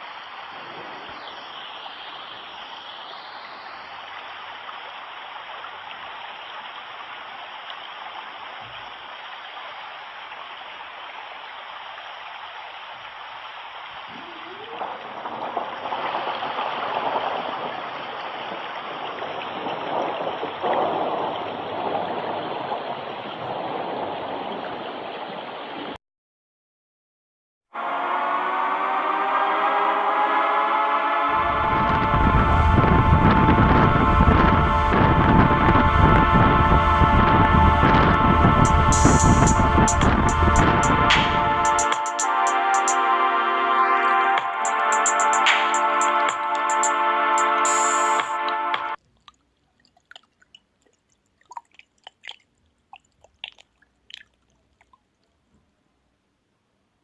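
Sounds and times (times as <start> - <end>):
running water rushing and gurgling: 0.0 - 26.0, 31.3 - 55.2.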